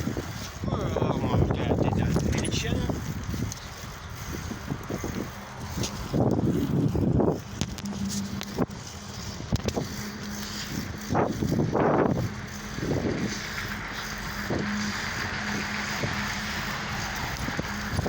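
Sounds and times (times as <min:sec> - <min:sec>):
road traffic hum: 0:00.0 - 0:18.0
wind buffeting microphone: 0:00.0 - 0:18.0.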